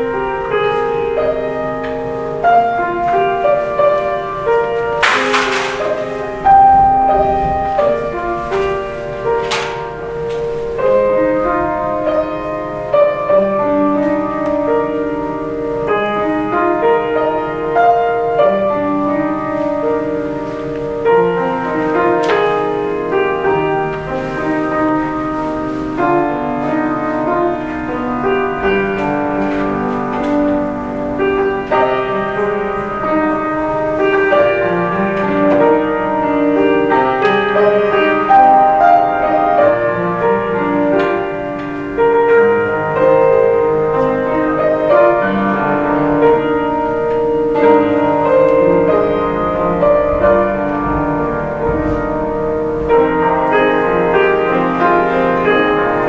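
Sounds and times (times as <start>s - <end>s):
grand piano playing chords: 0.0s - 56.0s.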